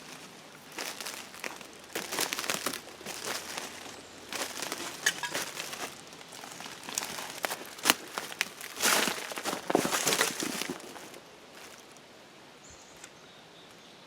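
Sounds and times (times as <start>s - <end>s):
dry debris crinkling: 0.0s - 12.0s.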